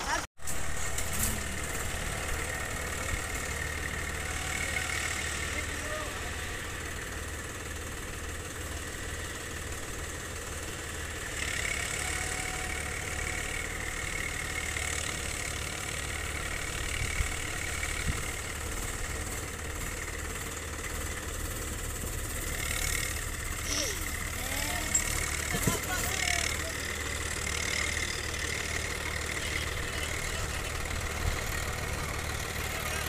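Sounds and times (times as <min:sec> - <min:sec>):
diesel tractor engine: 0:00.0 - 0:33.0.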